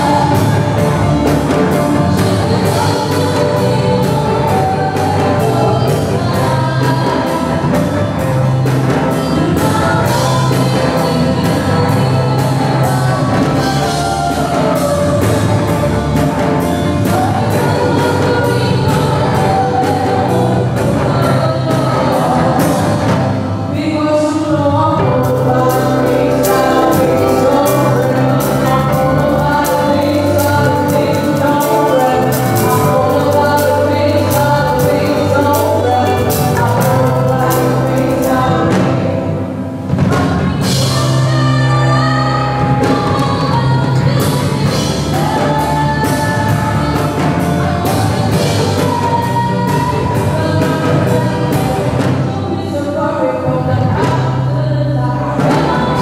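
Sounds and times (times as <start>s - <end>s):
live band playing: 0.0s - 56.0s
woman singing: 0.0s - 56.0s.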